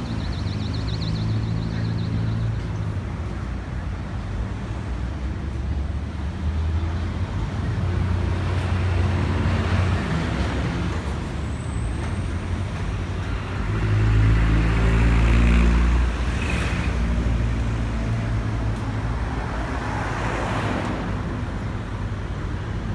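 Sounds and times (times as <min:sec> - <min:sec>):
vehicles passing: 0:00.0 - 0:22.9.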